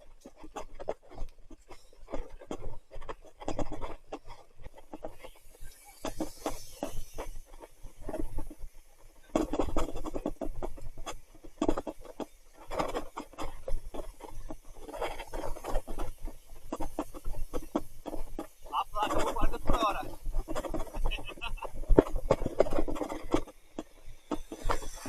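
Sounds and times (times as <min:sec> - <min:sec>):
bike clattering over rough ground: 0:00.0 - 0:25.0.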